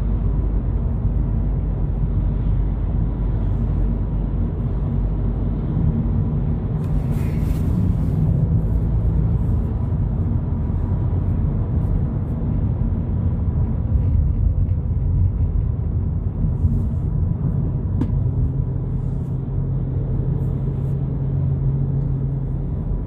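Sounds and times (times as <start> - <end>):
car road and engine rumble: 0.0 - 23.0
low engine drone: 0.0 - 23.0.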